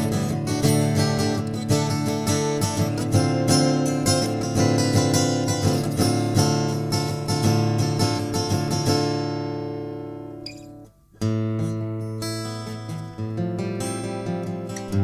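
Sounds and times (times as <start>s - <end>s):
acoustic guitar plucked notes and chords: 0.0s - 15.0s.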